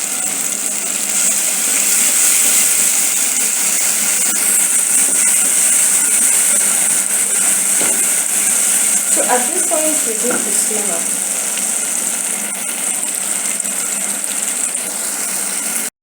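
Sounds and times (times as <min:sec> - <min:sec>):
onions and tomatoes sizzling: 0:00.0 - 0:15.9.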